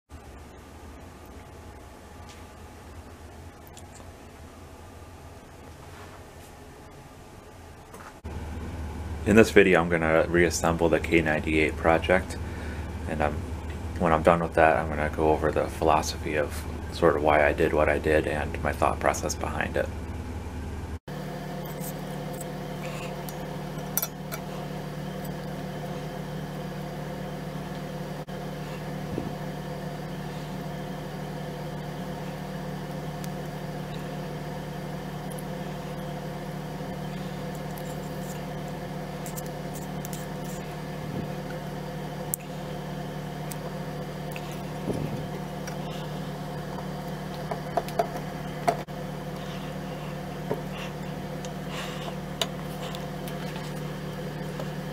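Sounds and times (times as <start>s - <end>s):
steady mechanical hum: 0.1s - 54.9s.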